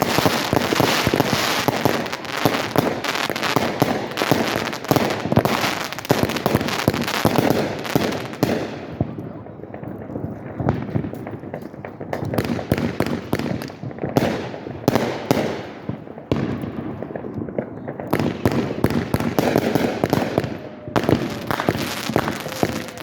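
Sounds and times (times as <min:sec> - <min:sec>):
fireworks cracking and booming: 0:00.0 - 0:23.0.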